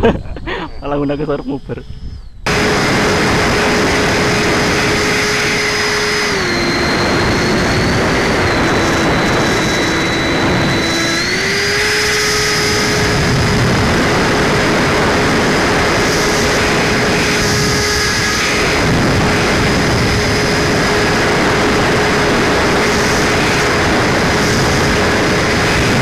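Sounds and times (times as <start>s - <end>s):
electric fan whine: 0.0s - 26.0s
rush of air: 2.5s - 26.0s.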